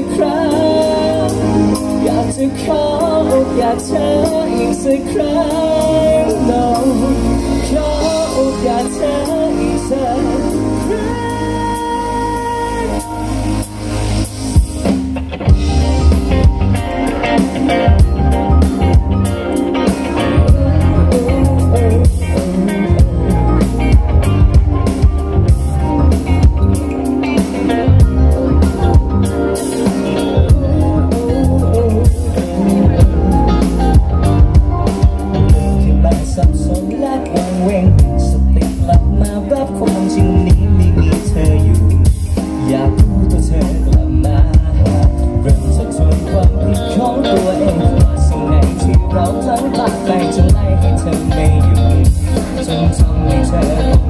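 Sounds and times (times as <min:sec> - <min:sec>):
man singing: 0:00.0 - 0:13.9, 0:15.5 - 0:54.0
bass guitar: 0:00.0 - 0:54.0
drum kit beat: 0:00.0 - 0:54.0
electric guitars: 0:00.0 - 0:54.0
keyboard: 0:00.0 - 0:54.0.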